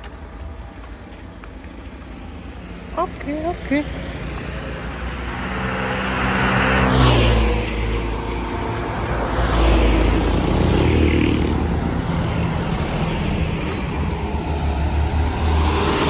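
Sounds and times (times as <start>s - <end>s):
traffic rumble: 0.0s - 16.0s
vehicles passing close by: 0.0s - 16.0s.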